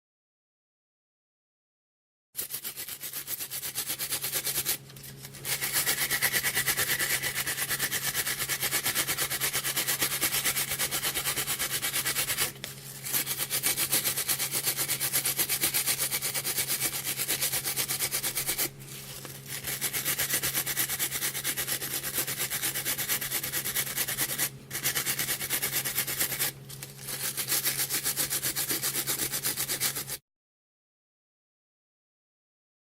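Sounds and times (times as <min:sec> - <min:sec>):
nail brush scrubbing: 0:02.4 - 0:30.2.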